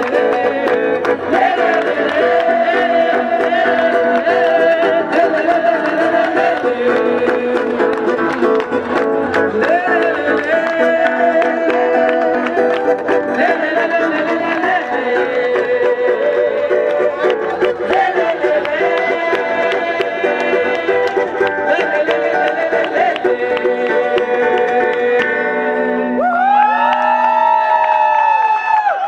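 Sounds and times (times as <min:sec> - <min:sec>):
held melody line: 0:00.0 - 0:26.2
plucked strings: 0:00.0 - 0:26.2.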